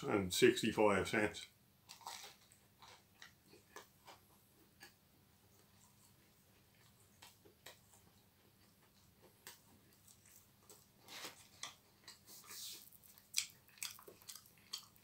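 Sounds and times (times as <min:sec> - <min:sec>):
chewing food: 0:01.8 - 0:15.0.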